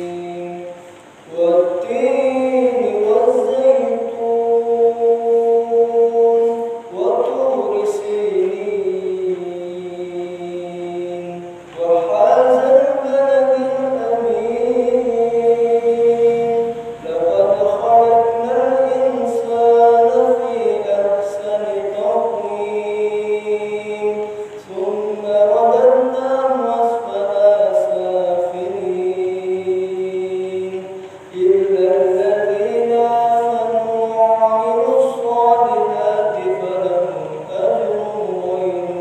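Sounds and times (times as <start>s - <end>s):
man chanting a recitation: 0.0s - 39.0s.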